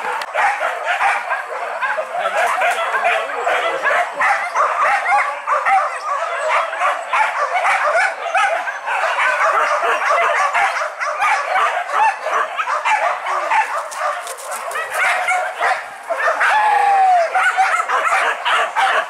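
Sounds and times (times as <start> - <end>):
dogs yelping and barking: 0.0 - 19.0.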